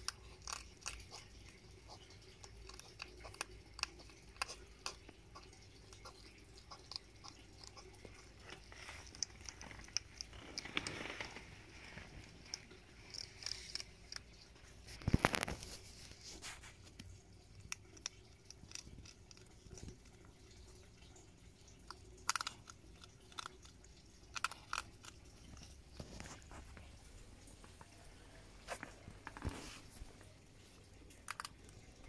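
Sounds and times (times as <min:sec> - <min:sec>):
hedgehogs crunching dry food: 0:00.0 - 0:28.0, 0:28.6 - 0:32.0.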